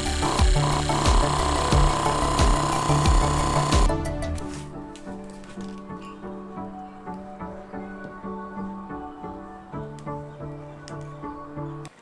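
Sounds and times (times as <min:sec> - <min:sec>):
melodic background music: 0:00.0 - 0:12.0.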